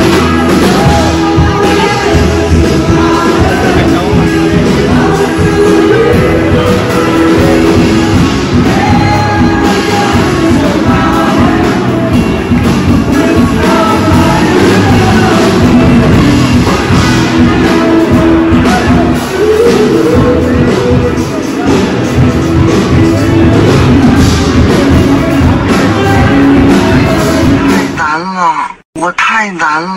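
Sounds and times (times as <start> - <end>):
guitar: 0.0 - 28.0
person singing: 0.0 - 28.1
rock band playing: 0.0 - 28.1.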